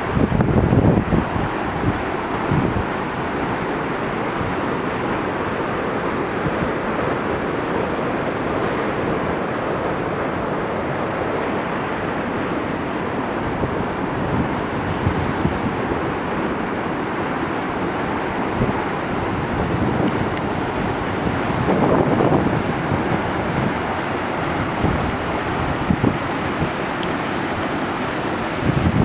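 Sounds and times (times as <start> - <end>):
waterfall roaring: 0.0 - 29.0
wind gusts on microphone: 0.0 - 29.0.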